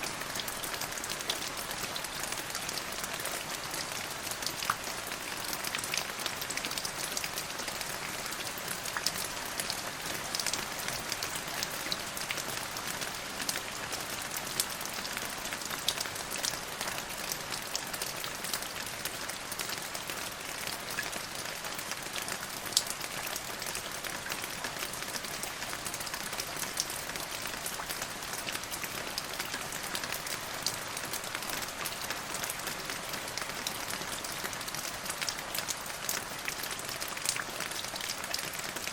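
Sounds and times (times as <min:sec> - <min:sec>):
steady rain on a surface: 0:00.0 - 0:38.9.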